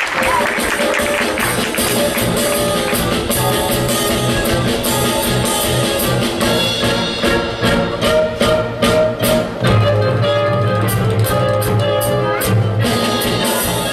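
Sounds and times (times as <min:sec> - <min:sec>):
instrumental band music: 0:00.0 - 0:13.9
steady drum beat: 0:00.0 - 0:13.9.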